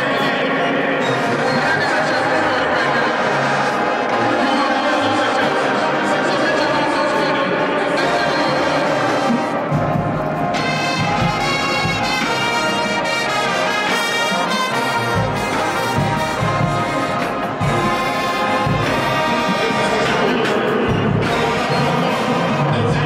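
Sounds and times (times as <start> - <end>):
brass section playing chords: 0.0 - 23.0.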